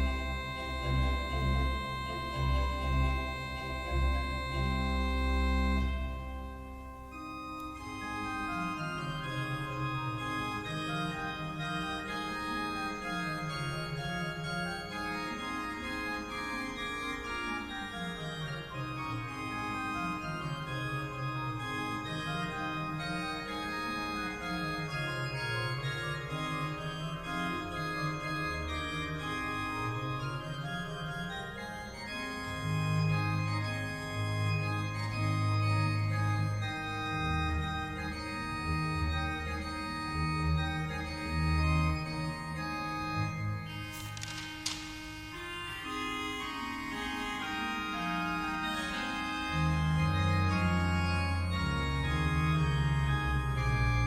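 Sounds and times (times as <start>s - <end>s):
organ music: 0.0s - 54.0s.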